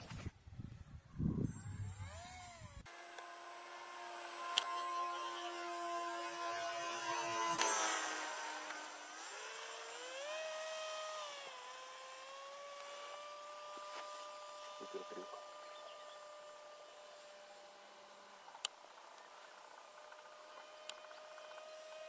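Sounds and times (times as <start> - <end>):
model plane motor whine: 0.7 - 22.0.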